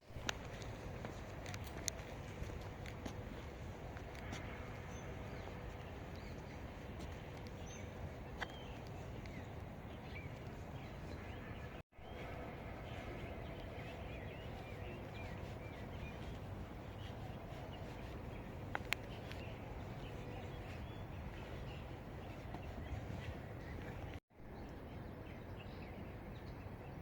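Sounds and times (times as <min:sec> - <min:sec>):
small birds chirping: 0:00.0 - 0:24.2.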